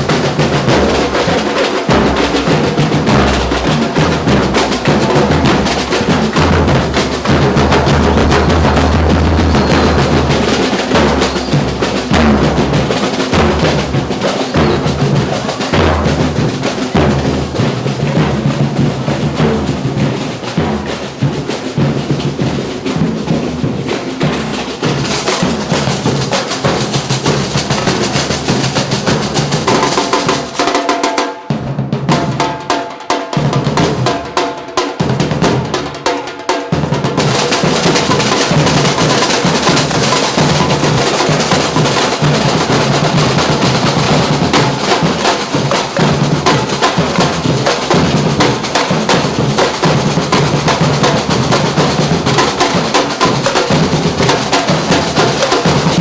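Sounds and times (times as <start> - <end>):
street drum band playing: 0.0 - 56.0.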